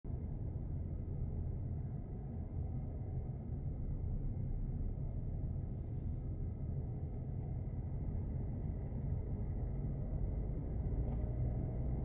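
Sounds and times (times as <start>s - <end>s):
car road and engine rumble: 0.1s - 12.0s.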